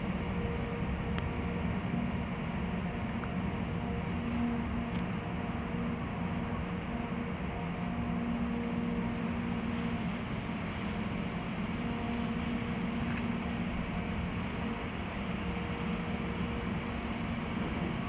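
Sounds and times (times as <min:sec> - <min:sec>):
electric locomotive humming: 0:00.0 - 0:18.0.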